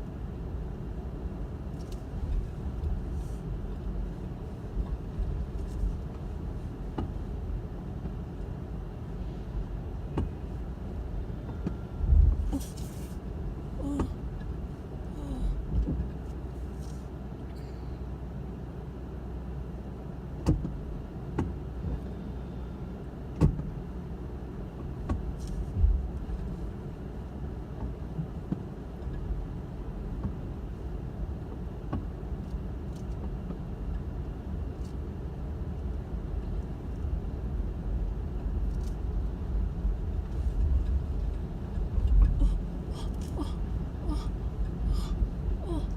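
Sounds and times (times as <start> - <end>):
car engine and tyres rumbling: 0.0 - 45.9.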